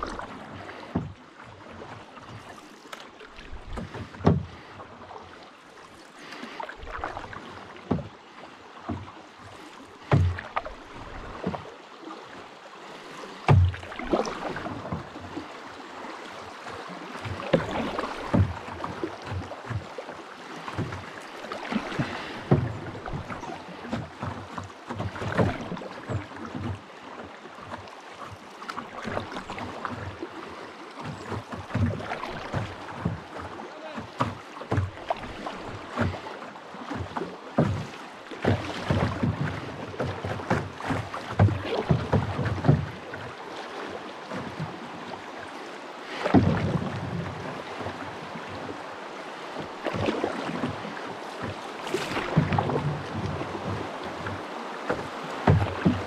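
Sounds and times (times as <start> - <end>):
paddle knocking on boat: 0.0 - 11.8, 13.4 - 56.0
paddle splashing in water: 0.0 - 56.0.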